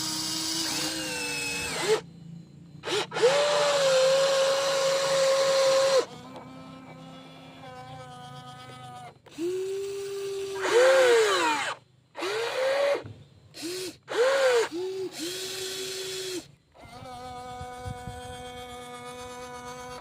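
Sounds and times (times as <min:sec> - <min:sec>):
small electric motors whining: 0:00.0 - 0:20.0.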